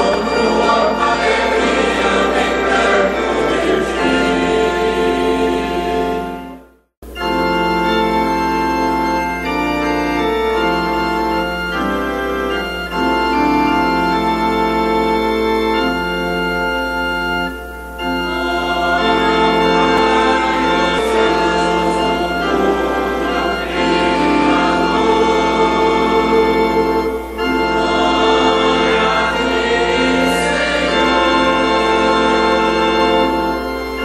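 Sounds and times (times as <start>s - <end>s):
organ playing sustained chords: 0.0s - 34.0s.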